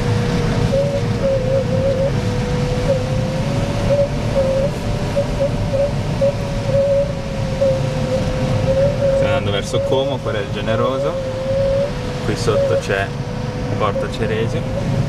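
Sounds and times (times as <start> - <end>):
variometer electronic tone: 0.0 - 15.0.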